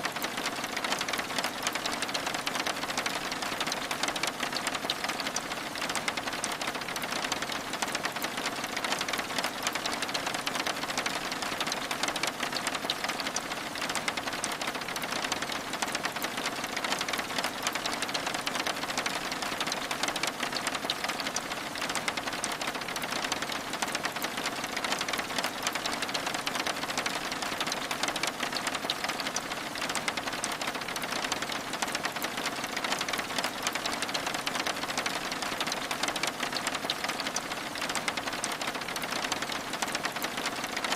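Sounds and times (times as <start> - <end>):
rain on window glass: 0.0 - 40.9.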